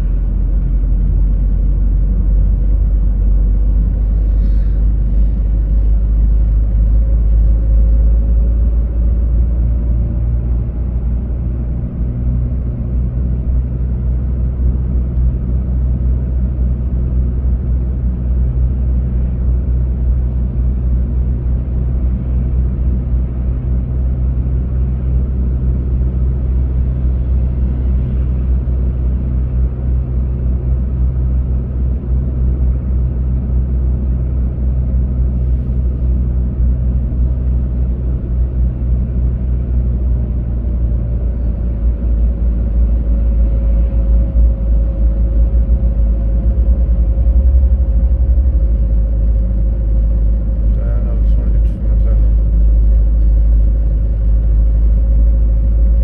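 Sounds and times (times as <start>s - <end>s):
car driving through tunnel: 0.0s - 56.0s.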